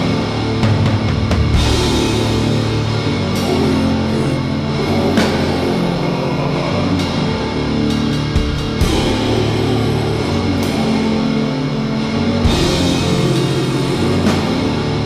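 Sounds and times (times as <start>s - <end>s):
distorted guitar chords: 0.0s - 15.0s
drums: 0.0s - 15.0s.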